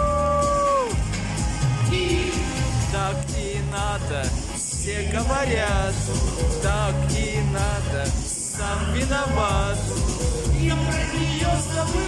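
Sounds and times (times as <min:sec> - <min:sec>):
band accompaniment with bass: 0:00.0 - 0:12.0
man singing pop ballad: 0:01.8 - 0:12.0.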